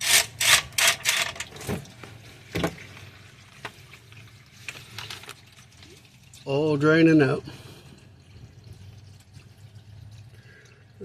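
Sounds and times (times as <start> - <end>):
oil pouring and splashing: 0.0 - 11.0.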